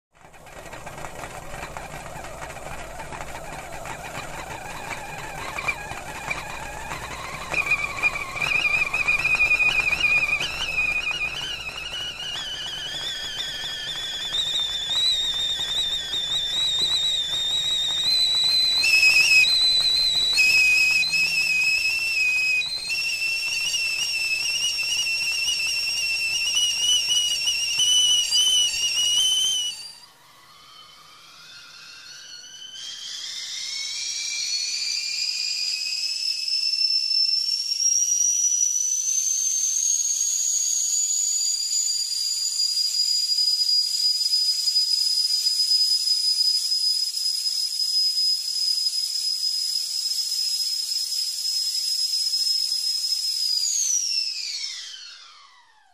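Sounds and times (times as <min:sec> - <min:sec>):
kettle steam whistle: 0:00.2 - 0:55.9.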